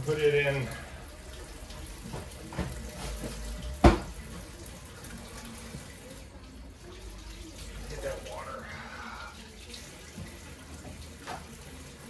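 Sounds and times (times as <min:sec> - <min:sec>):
water running from a tap: 0:00.0 - 0:12.0.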